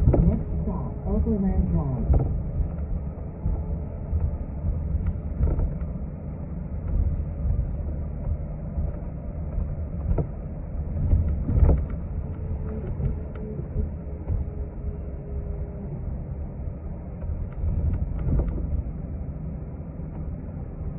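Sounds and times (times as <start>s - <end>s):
bus engine and road rumble: 0.0s - 20.9s.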